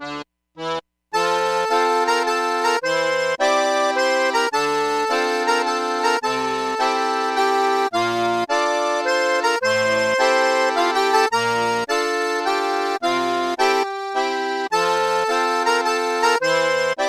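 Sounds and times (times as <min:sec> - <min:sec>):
held chords: 0:00.0 - 0:17.0.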